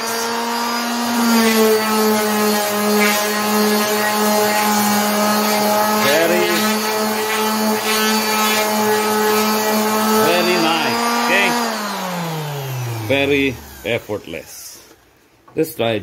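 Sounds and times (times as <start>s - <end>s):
orbital sander running: 0.0s - 15.0s.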